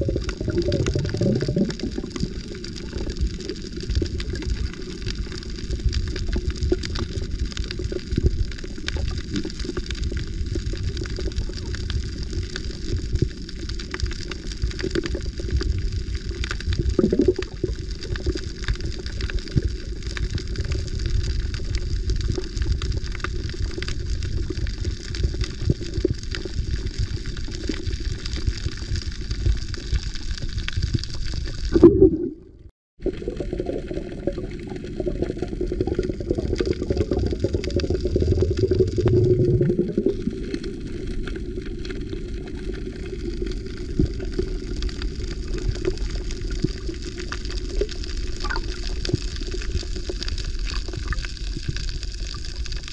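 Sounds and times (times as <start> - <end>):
muffled underwater rumble: 0.0 - 52.9.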